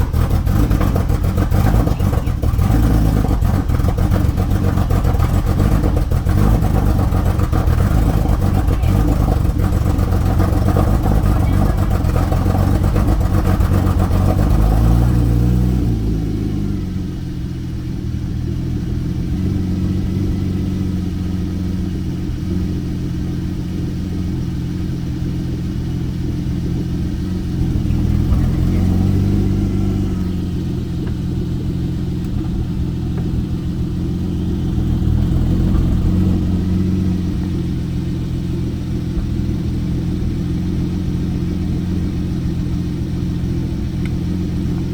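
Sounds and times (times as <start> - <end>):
car engine idling roughly: 0.0 - 44.9.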